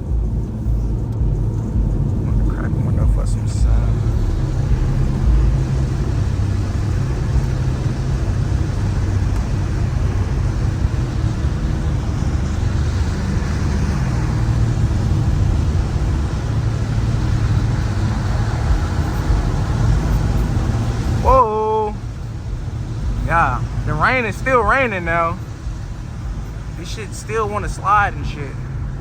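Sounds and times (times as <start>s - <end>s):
car engine at highway speed: 0.0s - 29.0s
tyre noise on wet road: 0.0s - 29.0s.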